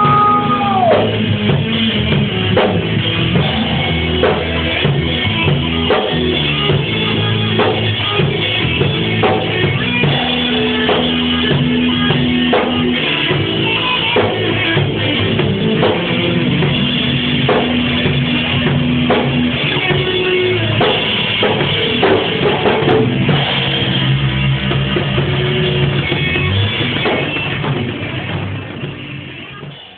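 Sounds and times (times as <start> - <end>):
bass guitar: 0.0 - 29.9
drum kit beat: 0.0 - 29.9
guitar: 0.0 - 29.9.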